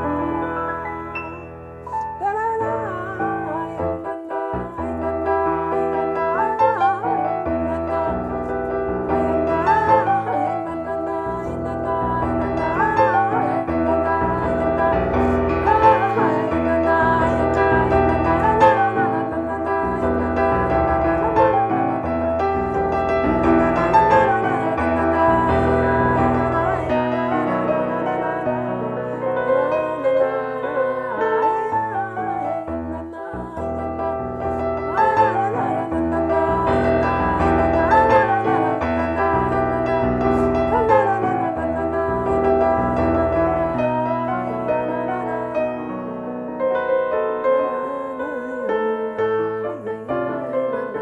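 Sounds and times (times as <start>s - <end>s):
slow melody with vibrato: 0.0s - 51.0s.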